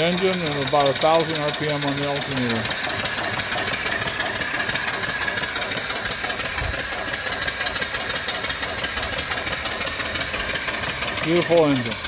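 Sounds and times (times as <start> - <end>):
steam engine exhaust puffs: 0.0 - 12.0.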